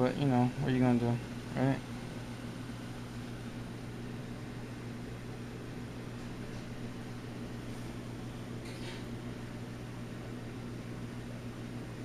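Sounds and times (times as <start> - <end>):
aquarium pumps humming: 0.0 - 12.0.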